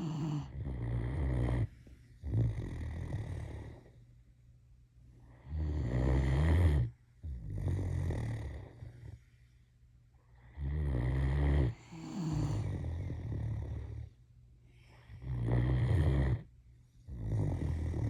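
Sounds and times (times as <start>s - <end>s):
dog snoring: 0.0s - 4.0s, 5.3s - 9.2s, 10.4s - 14.2s, 14.9s - 18.0s.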